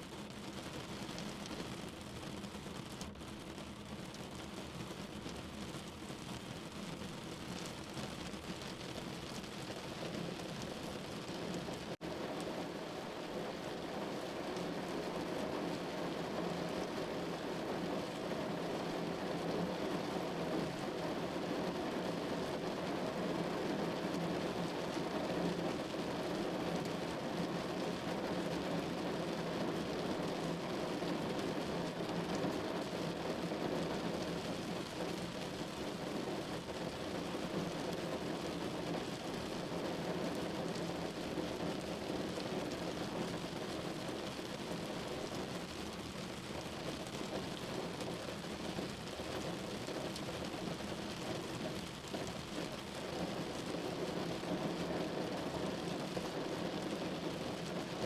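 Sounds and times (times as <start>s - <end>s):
rain falling on a window: 0.0s - 58.0s.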